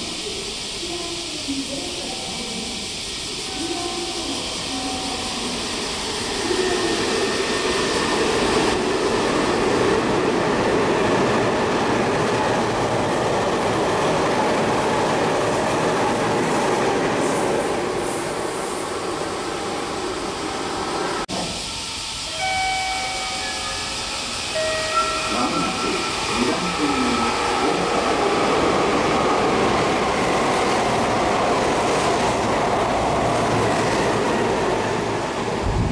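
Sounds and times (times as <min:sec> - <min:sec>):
high hiss: 0:00.0 - 0:35.9
train wheels rushing on rail: 0:00.0 - 0:35.9.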